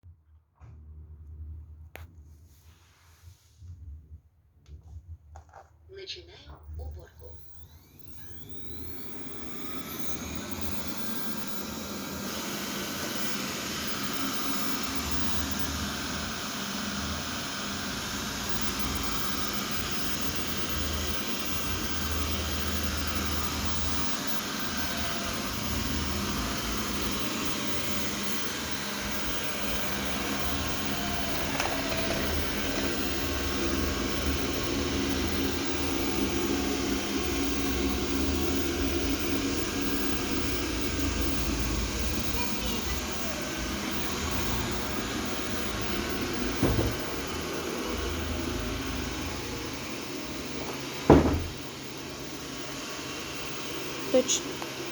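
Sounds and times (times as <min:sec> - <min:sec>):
robot vacuum suction fan whirring: 0:06.8 - 0:54.9.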